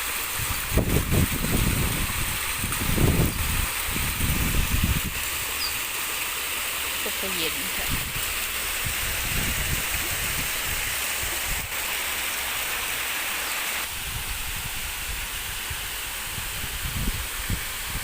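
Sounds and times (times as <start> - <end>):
water splashing in a waterfall: 0.0 - 18.0.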